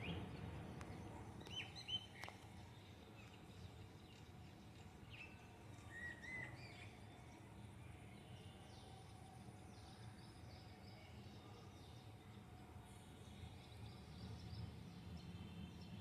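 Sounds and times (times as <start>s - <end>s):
faint background noise: 0.0s - 16.0s.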